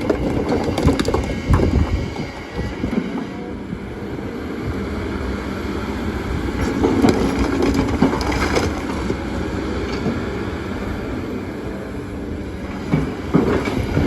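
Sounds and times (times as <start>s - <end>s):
excavator engine running: 0.0s - 14.0s.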